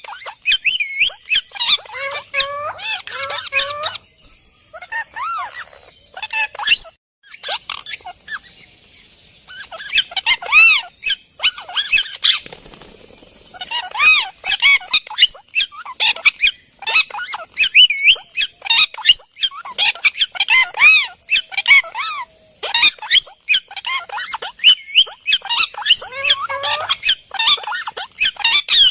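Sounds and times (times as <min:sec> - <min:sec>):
birds squawking: 0:00.0 - 0:08.5, 0:09.5 - 0:12.5, 0:13.6 - 0:28.9.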